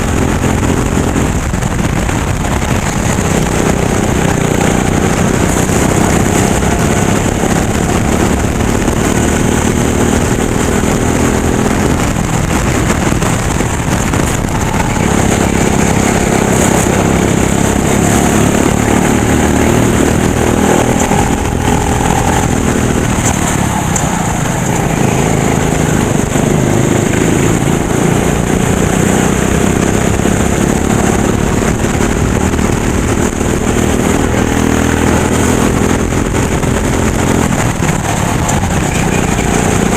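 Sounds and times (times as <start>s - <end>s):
kart engine running hard: 0.0s - 39.9s
wind and road noise: 0.0s - 39.9s.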